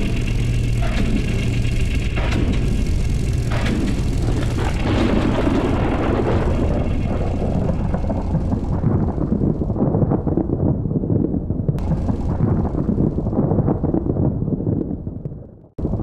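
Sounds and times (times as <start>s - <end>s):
dense low rumble: 0.0s - 16.0s.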